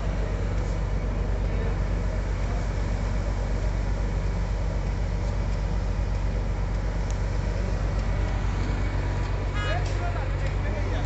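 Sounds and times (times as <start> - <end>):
loader engine rumbling: 0.0 - 11.0.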